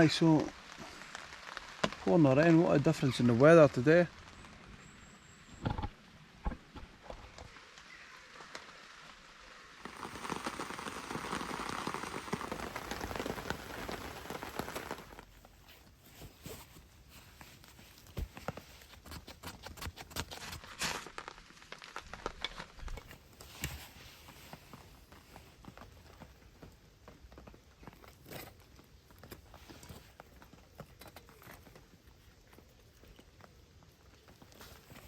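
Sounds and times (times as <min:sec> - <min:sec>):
rain on a tarp: 0:00.0 - 0:35.0.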